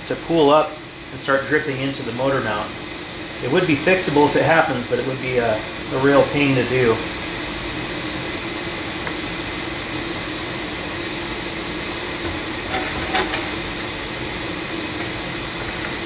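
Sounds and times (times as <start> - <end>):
workshop hum: 0.0 - 16.0.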